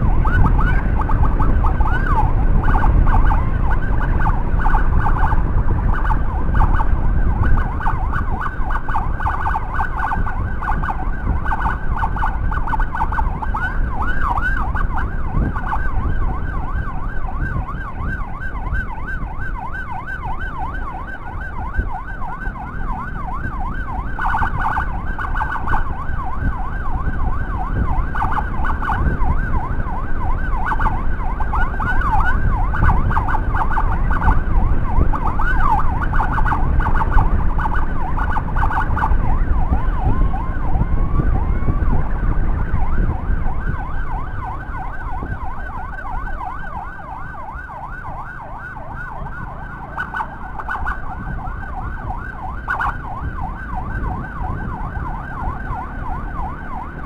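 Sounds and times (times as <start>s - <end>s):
electronic emergency siren: 0.0s - 57.0s
wind rumble: 0.0s - 57.0s.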